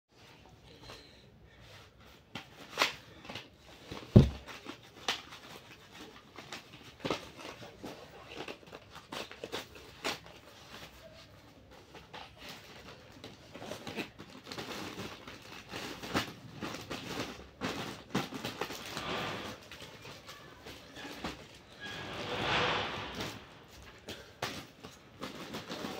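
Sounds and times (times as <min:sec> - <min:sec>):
bubble wrap and plastic bag crinkling: 0:02.2 - 0:21.8, 0:23.6 - 0:25.9.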